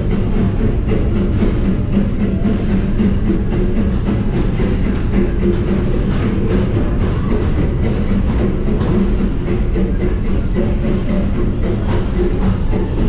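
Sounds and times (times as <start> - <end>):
music playing: 0.0 - 13.0
railroad carriage rumbling on track: 0.0 - 13.0.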